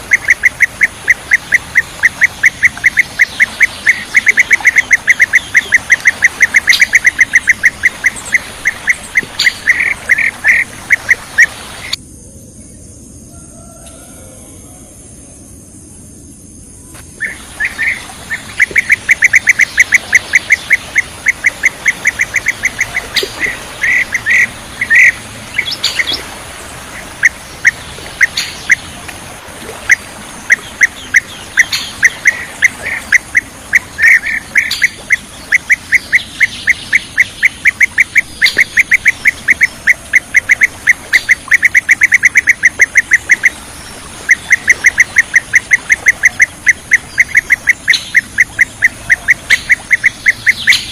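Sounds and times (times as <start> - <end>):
bee-eaters calling: 0.0 - 12.0, 17.2 - 50.9.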